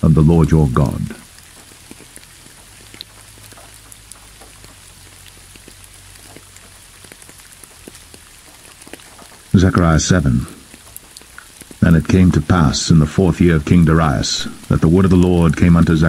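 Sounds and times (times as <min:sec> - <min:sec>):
rain falling: 0:00.0 - 0:16.0
raindrops ticking: 0:00.0 - 0:16.0.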